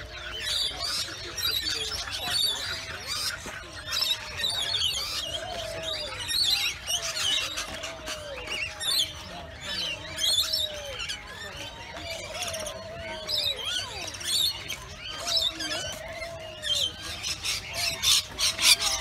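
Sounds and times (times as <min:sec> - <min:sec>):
birds chirping and squeaking: 0:00.0 - 0:19.0.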